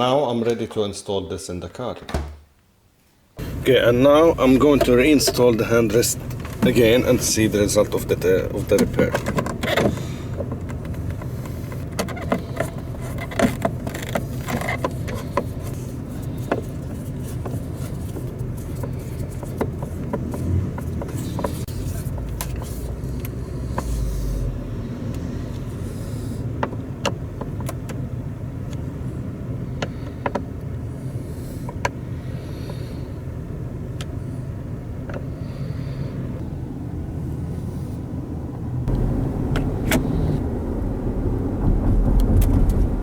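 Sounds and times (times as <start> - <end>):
road and engine rumble: 3.4 - 43.0.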